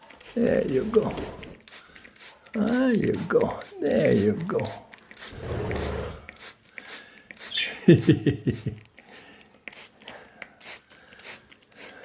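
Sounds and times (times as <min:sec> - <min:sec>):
spray bottle squirts: 0:00.0 - 0:12.0.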